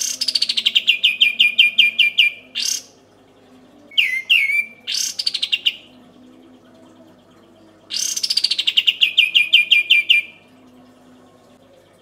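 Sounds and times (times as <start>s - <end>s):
bulbul singing rolling song: 0.0s - 12.0s.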